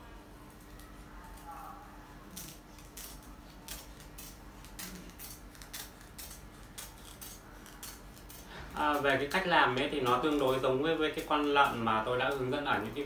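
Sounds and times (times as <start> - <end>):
scissors snipping palm leaf: 2.3 - 12.8.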